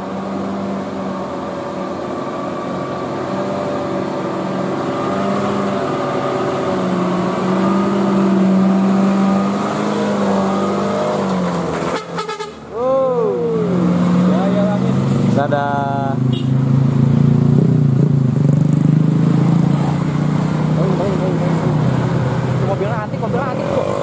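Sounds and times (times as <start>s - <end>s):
bus engine: 0.0s - 24.0s
truck diesel engine droning: 0.0s - 24.0s.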